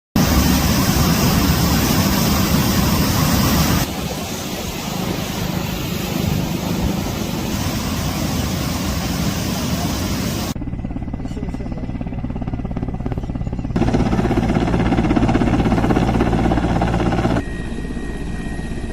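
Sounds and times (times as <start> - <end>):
helicopter rotor and turbine roar: 0.2 - 18.9.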